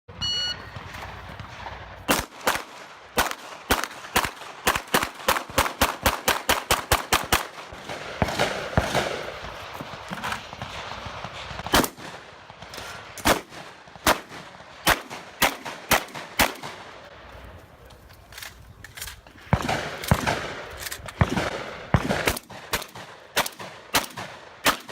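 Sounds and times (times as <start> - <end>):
gunshots: 0.7 - 17.1, 19.4 - 24.9.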